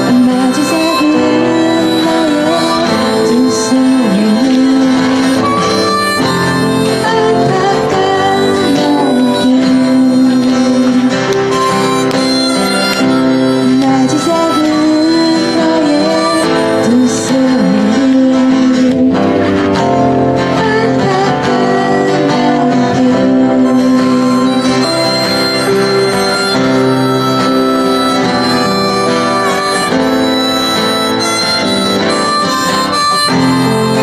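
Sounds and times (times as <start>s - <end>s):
band playing live: 0.0s - 34.0s
guitar accompaniment: 0.0s - 34.0s
long sliding melody notes: 0.0s - 34.0s.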